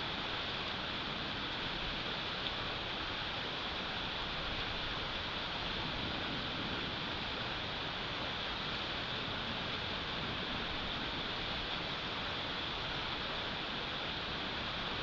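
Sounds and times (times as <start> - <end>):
wind and snowstorm hiss: 0.0 - 15.0.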